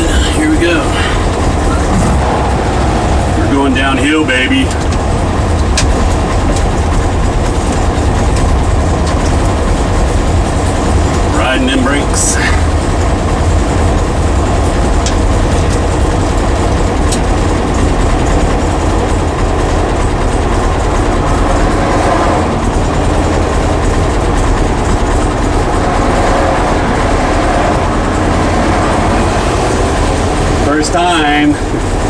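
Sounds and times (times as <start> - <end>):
car engine rumble: 0.0 - 32.0
road and wind noise: 0.0 - 32.0.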